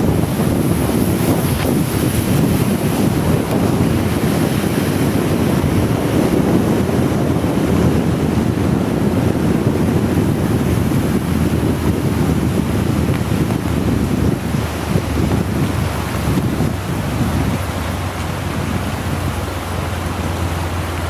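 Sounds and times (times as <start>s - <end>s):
heavy rain hissing: 0.0s - 21.0s
wind buffeting microphone: 0.0s - 21.0s.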